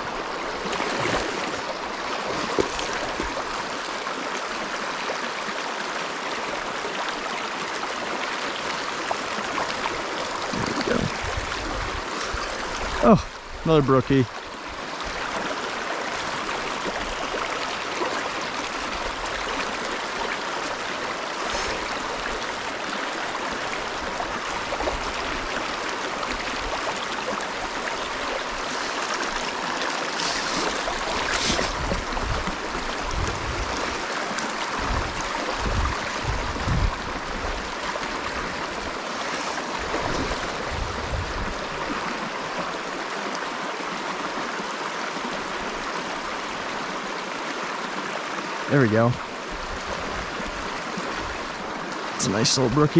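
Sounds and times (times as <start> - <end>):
water rushing over boulders: 0.0 - 52.9.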